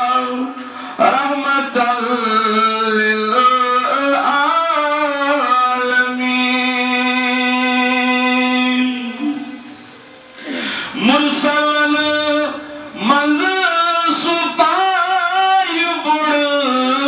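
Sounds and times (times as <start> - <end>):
man singing devotional song: 0.0 - 9.7, 10.8 - 17.0.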